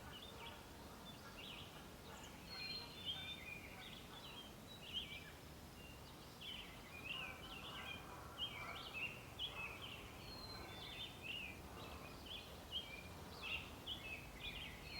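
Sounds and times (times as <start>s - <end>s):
faint background hiss: 0.0s - 14.9s
songbirds singing: 0.0s - 14.9s.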